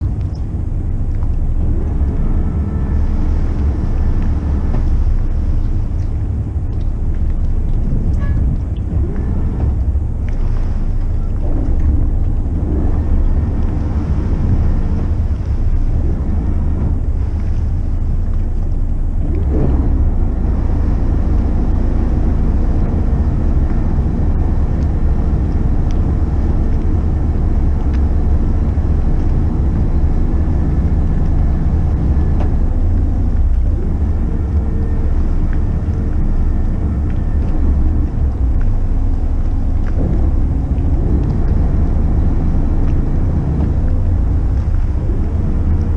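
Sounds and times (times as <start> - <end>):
boat engines rumbling: 0.0 - 45.9
hull moving through water: 0.0 - 45.9.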